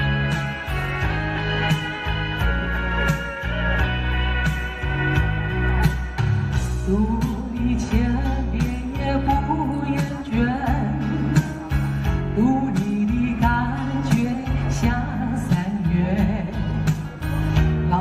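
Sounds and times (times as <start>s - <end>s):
bass: 0.0s - 18.0s
guitar: 0.0s - 18.0s
person singing: 0.0s - 18.0s.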